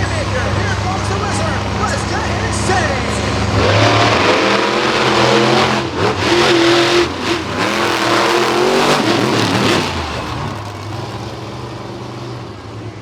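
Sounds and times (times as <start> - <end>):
truck engine revving hard: 0.0 - 12.9.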